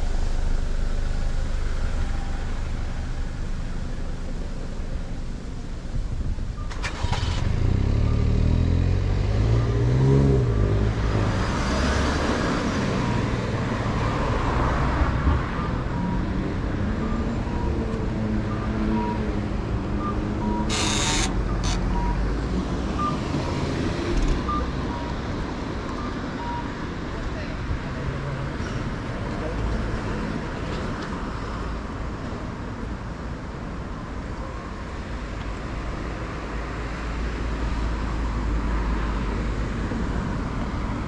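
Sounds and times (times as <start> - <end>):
vehicles passing: 0.0 - 41.0.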